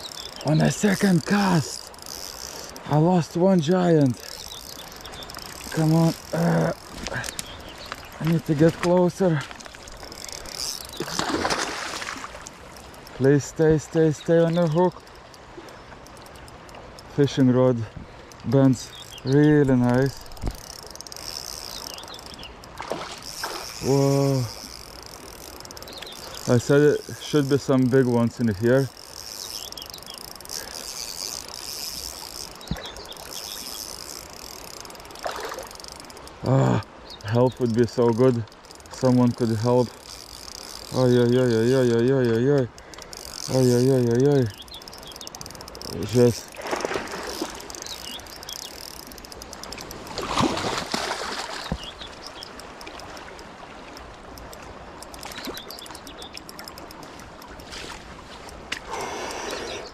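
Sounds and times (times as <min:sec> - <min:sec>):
fishing reel ticking: 0:00.0 - 0:59.9
river water running: 0:00.0 - 0:59.9.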